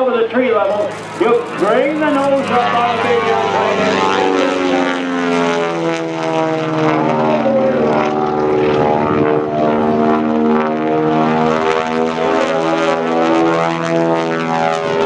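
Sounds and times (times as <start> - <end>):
radial piston aircraft engines: 0.1 - 15.0.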